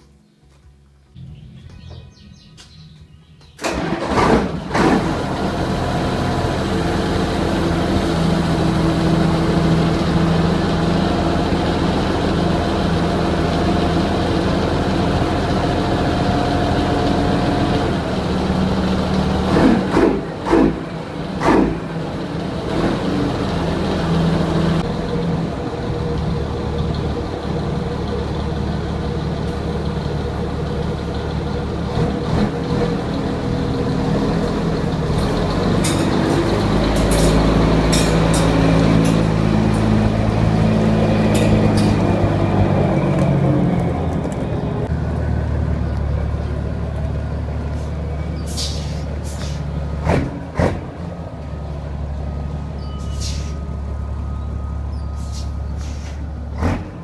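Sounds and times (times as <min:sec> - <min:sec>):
diesel engine idling: 0:00.1 - 0:57.0
diesel truck engine starting: 0:00.9 - 0:57.0
engine revving: 0:03.6 - 0:51.3, 0:56.5 - 0:57.0.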